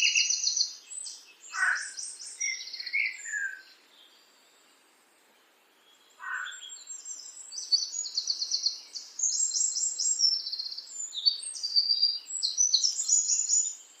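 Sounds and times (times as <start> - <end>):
songbird chirping and trilling: 0.0 - 14.0.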